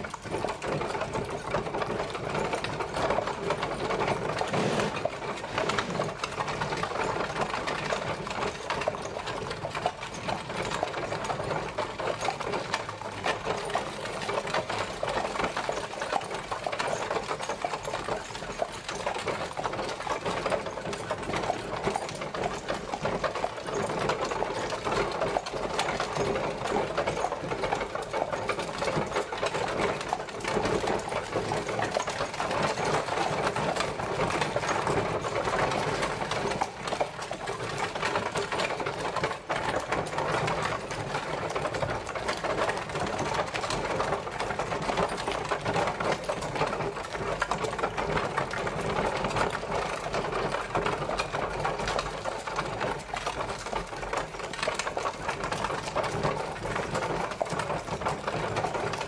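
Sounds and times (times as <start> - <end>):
horse-drawn carriage rattling: 0.0 - 59.0.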